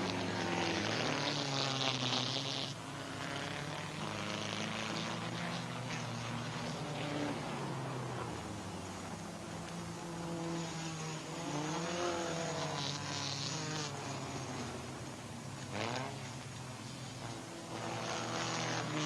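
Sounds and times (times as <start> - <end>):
race car passing by: 0.0 - 19.0
racing car engines: 0.0 - 19.0.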